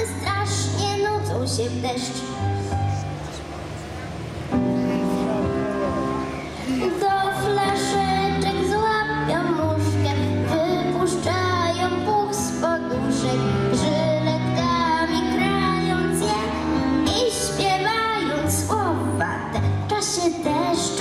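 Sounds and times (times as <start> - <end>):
girl singing into a microphone: 0.0 - 2.6, 6.7 - 21.0
instrumental backing track with bass: 0.0 - 21.0.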